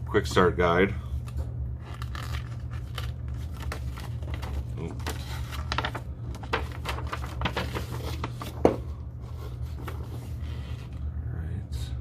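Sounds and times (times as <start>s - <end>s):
steady low hum: 0.0s - 12.0s
paper rustling and crinkling: 1.2s - 11.0s.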